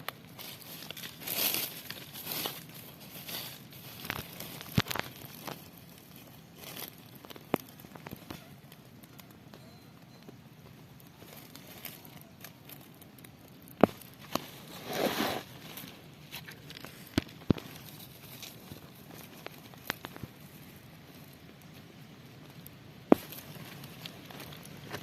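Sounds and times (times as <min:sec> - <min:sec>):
rustling and crackling: 0:00.0 - 0:25.0.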